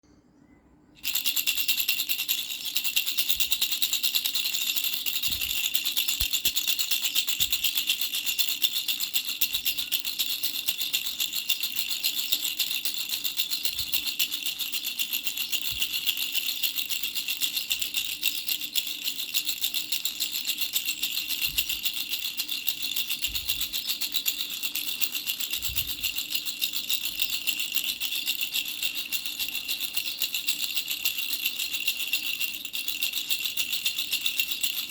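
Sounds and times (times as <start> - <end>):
baby rattle shaken: 1.0 - 34.9.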